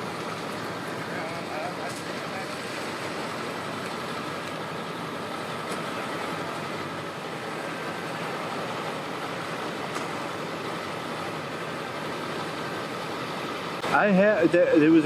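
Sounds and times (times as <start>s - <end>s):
engines humming: 0.0s - 15.0s
outdoor noise: 0.0s - 15.0s.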